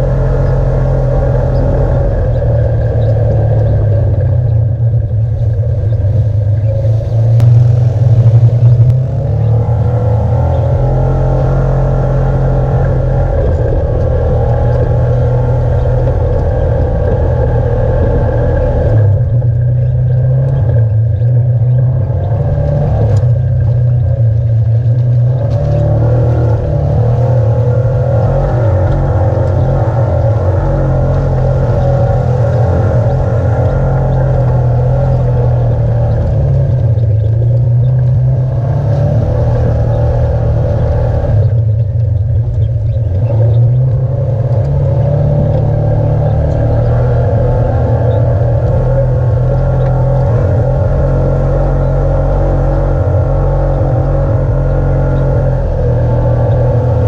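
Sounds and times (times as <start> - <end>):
utility vehicle engine rumbling: 0.0 - 57.0.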